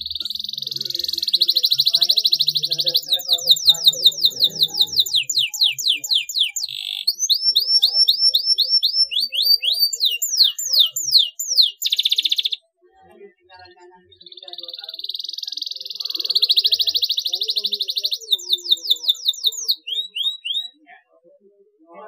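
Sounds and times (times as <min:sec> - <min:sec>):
canary singing: 0:00.0 - 0:20.8.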